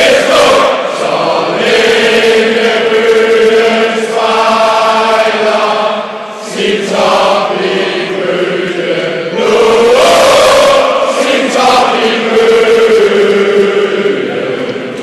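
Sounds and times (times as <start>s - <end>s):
crowd chanting in unison: 0.0s - 15.0s.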